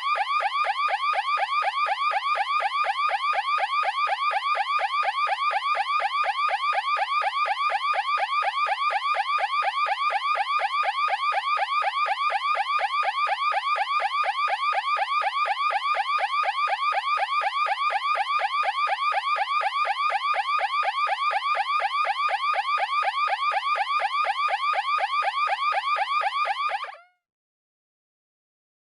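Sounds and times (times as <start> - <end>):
alarm siren whooping: 0.0 - 27.2.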